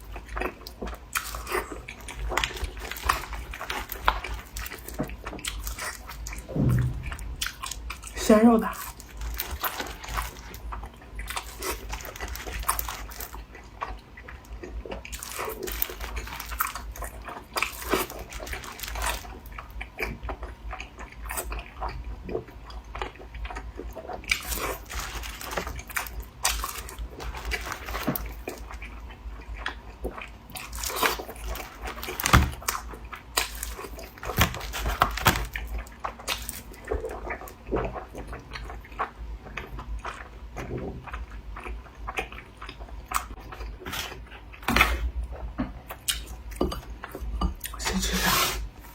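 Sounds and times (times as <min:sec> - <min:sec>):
person chewing dumplings: 0:00.0 - 0:47.9.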